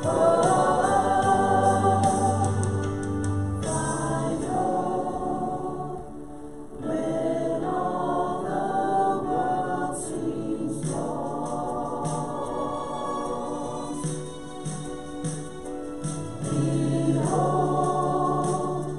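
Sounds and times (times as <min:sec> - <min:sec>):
group singing worship song: 0:00.0 - 0:14.6, 0:15.3 - 0:18.9.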